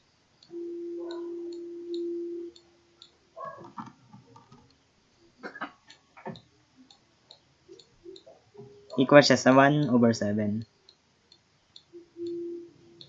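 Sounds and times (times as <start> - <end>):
steady hummed tone: 0.0 - 3.6, 4.7 - 13.0
faint clock ticking: 0.0 - 13.0.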